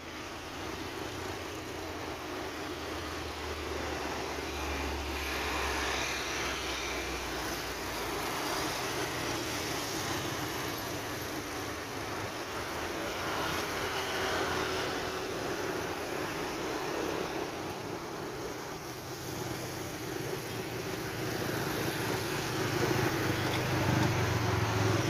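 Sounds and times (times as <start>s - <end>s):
jet engine noise with low rumble: 0.0s - 25.0s.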